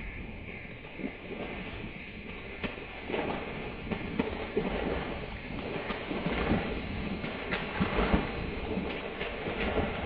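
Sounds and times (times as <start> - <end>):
rumbling wash of noise: 0.0 - 10.0.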